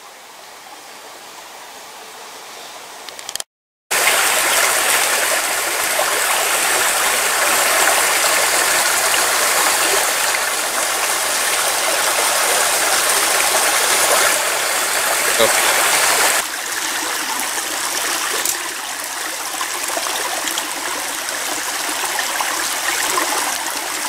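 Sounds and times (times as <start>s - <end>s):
stream rushing over rocks: 3.9s - 24.0s.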